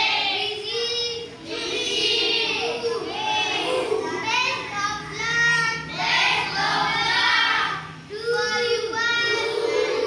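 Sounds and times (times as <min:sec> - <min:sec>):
child reading in sing-song chant: 0:00.0 - 0:10.0.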